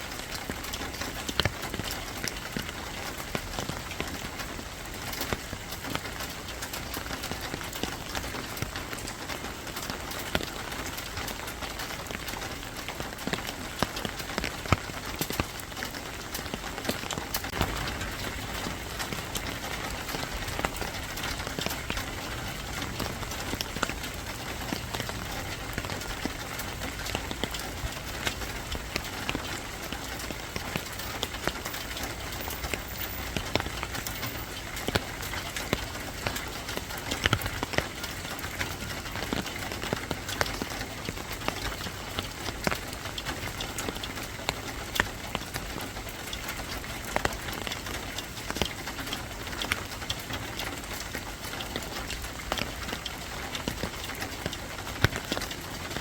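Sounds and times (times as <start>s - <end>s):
rain drops on hard surface: 0.0s - 56.0s.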